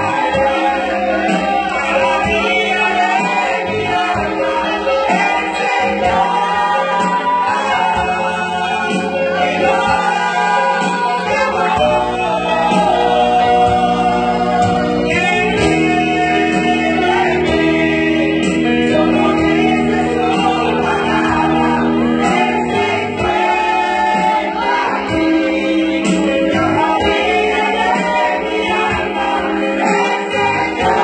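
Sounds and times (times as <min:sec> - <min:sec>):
women's choir singing: 0:00.0 - 0:31.0.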